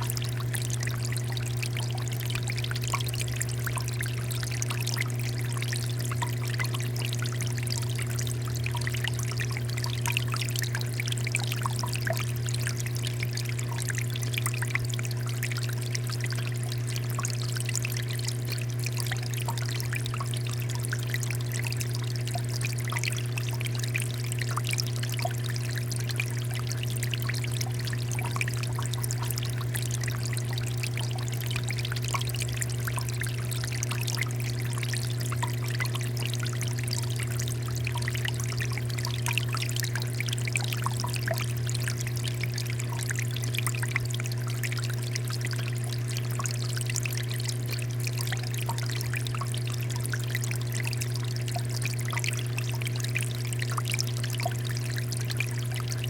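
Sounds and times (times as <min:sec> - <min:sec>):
water fountain trickling: 0:00.0 - 0:56.0.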